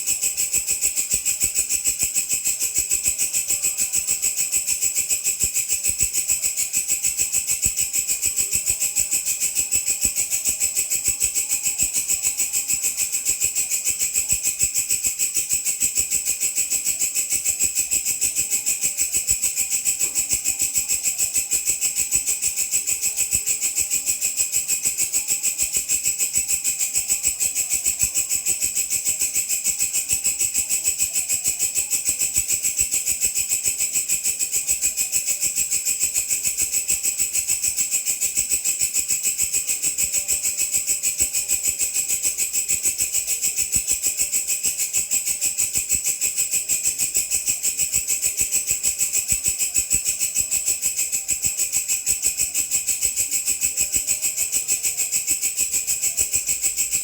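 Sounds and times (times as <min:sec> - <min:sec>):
grasshopper stridulating: 0:00.0 - 0:57.0.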